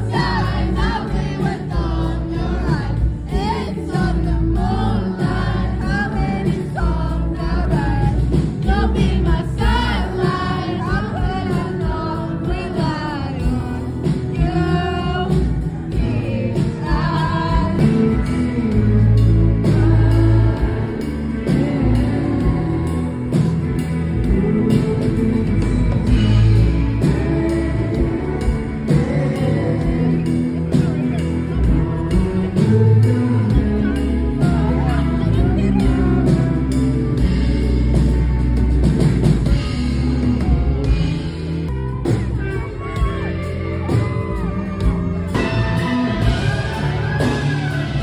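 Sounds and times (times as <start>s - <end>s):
man singing: 0.0s - 38.5s
live rock band playing: 0.0s - 48.0s.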